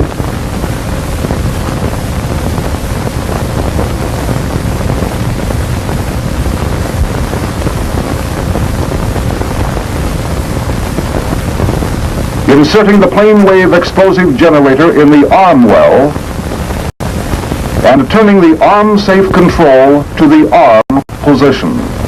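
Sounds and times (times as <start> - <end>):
film soundtrack hiss and rumble: 0.0 - 22.0.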